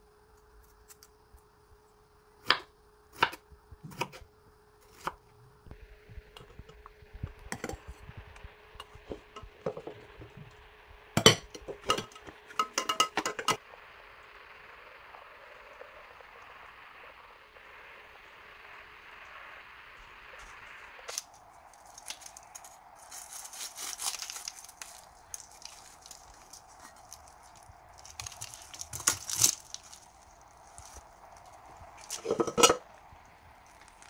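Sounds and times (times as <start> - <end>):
steady soft hiss: 0.0 - 34.0.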